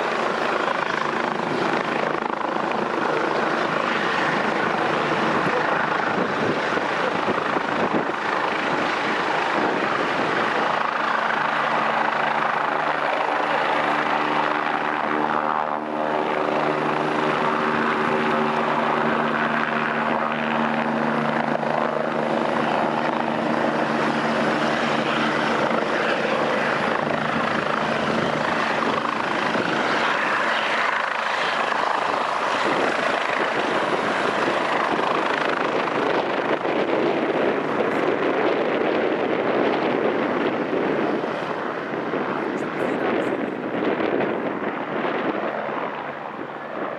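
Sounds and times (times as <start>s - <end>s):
helicopter rotor and turbine: 0.0s - 46.9s.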